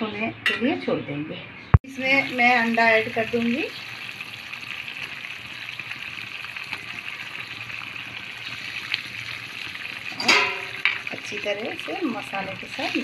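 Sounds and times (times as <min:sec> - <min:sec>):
curry simmering and sizzling: 0:01.9 - 0:13.0.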